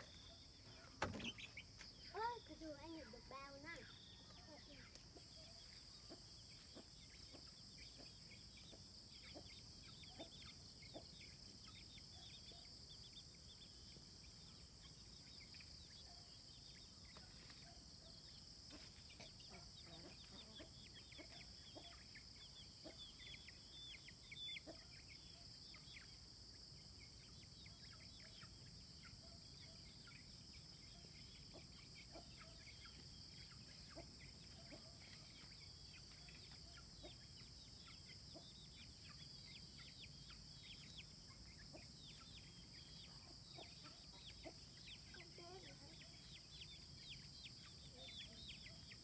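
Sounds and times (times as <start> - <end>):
chicks peeping: 0.1 - 49.0.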